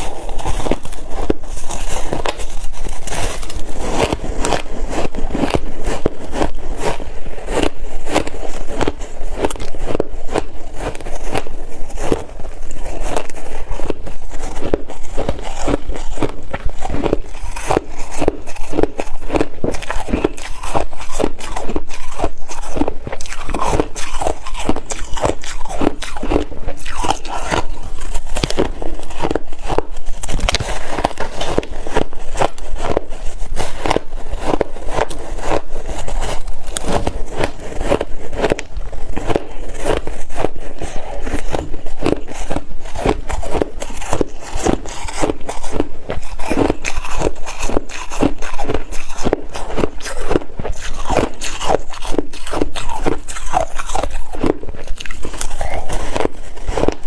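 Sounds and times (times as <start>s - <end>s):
person chewing ice: 0.0s - 57.0s.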